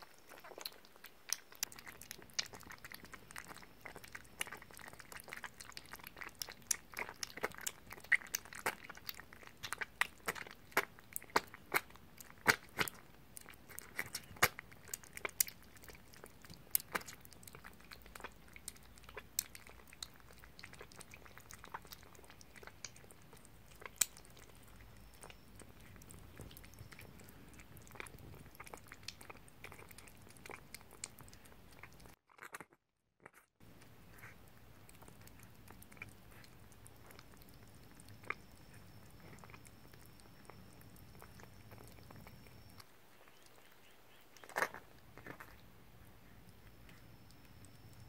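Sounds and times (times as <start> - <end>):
kittens chewing wet food: 0.0 - 48.0.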